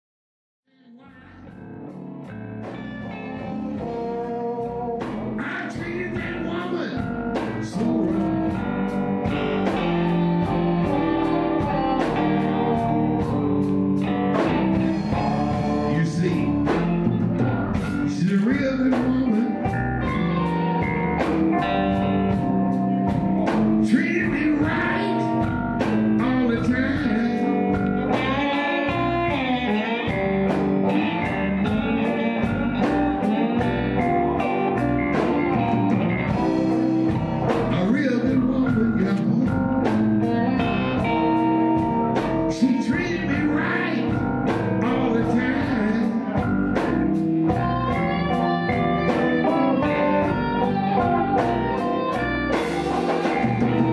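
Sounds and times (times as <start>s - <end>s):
electric guitars: 1.0s - 53.9s
steady drum beat: 2.5s - 53.9s.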